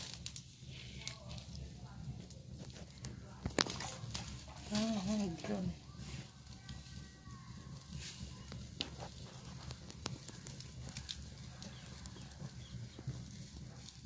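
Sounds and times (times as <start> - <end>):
fire crackles and pops: 0.0 - 14.0
low rumble of flames: 0.0 - 14.0.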